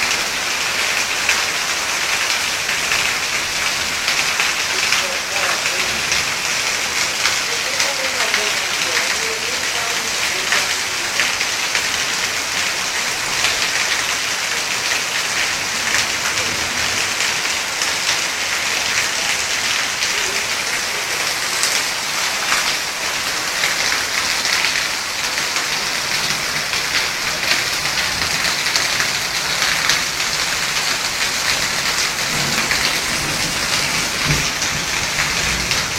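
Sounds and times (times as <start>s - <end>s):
rain pattering on surfaces: 0.0s - 35.9s.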